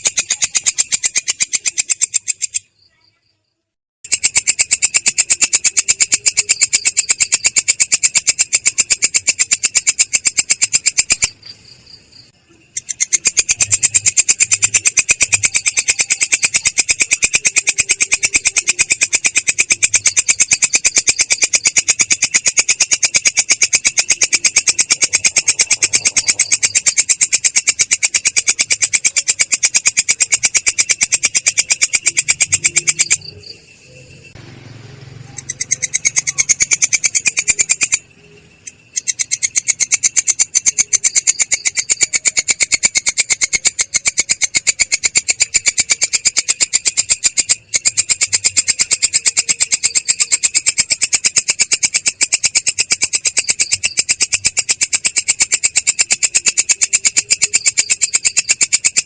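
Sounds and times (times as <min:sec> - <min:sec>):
insect chirping: 0:00.0 - 0:59.0.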